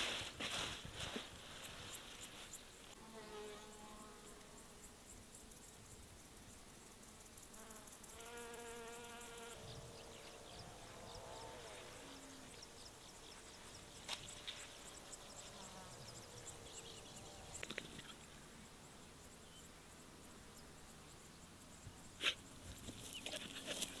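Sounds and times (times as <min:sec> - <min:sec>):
flying insects buzzing: 0:00.0 - 0:24.0.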